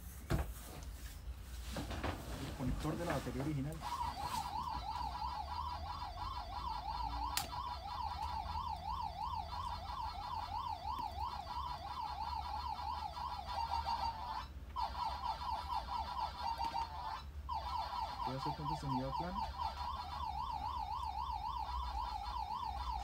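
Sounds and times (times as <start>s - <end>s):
warbling siren: 2.6s - 23.0s.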